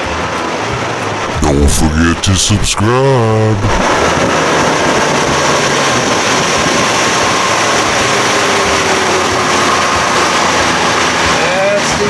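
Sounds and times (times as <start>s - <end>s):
outboard motor running: 0.0s - 12.0s
wind and water rushing: 0.0s - 12.0s.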